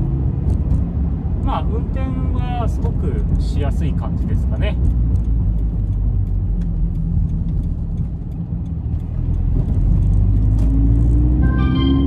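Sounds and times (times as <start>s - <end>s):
car engine inside cabin: 0.0s - 12.0s.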